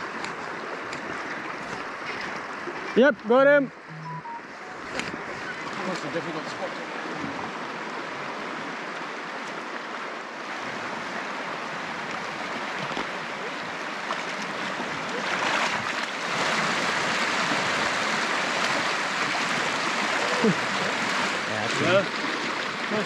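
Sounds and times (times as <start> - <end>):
river water rushing over rapids: 0.0 - 23.0.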